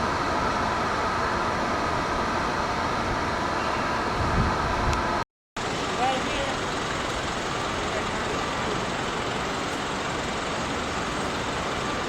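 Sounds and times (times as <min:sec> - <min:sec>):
city traffic: 0:00.0 - 0:12.0.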